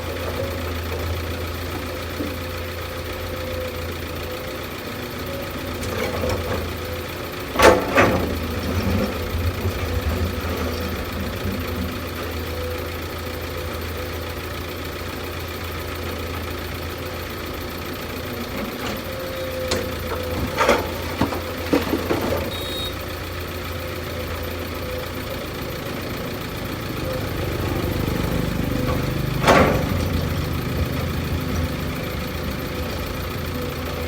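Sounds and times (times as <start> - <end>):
heavy machine engine idling: 0.0 - 34.0.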